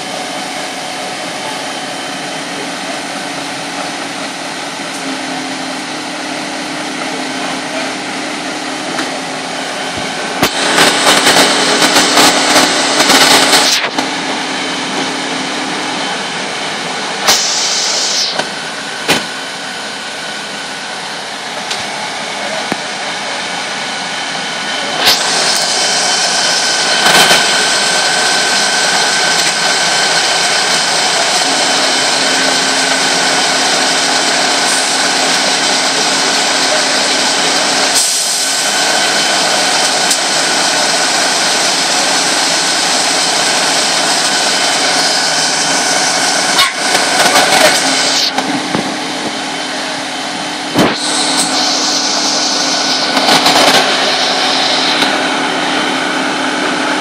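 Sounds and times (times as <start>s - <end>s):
fire engine drone: 0.0s - 57.0s.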